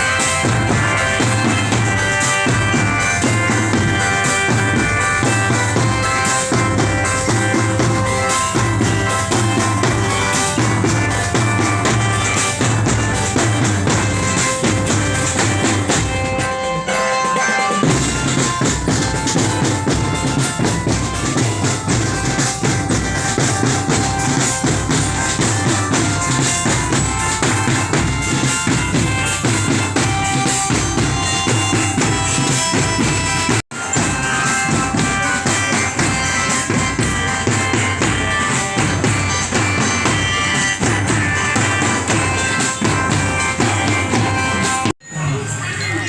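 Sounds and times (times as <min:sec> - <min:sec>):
bass drums: 0:00.0 - 0:16.4, 0:17.8 - 0:44.9
melody line over drums: 0:00.0 - 0:45.0
snare drums: 0:00.0 - 0:45.0.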